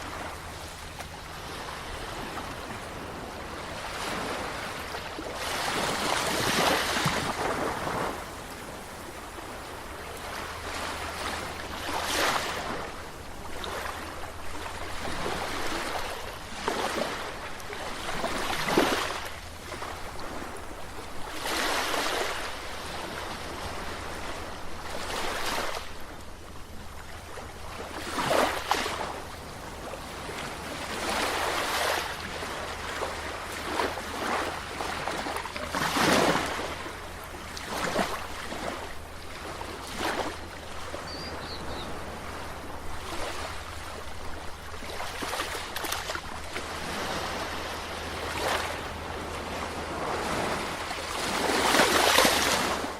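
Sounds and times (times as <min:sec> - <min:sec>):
sea waves breaking: 0:00.0 - 0:52.9.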